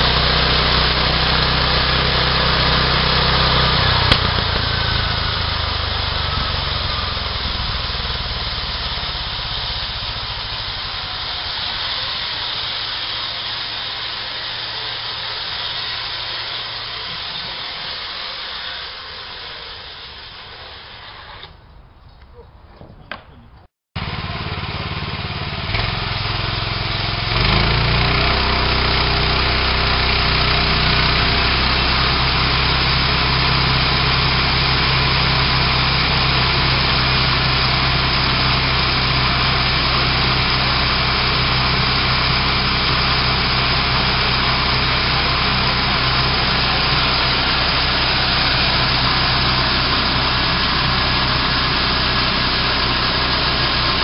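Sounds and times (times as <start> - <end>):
small gasoline engine running: 0.0 - 21.6, 24.0 - 54.0.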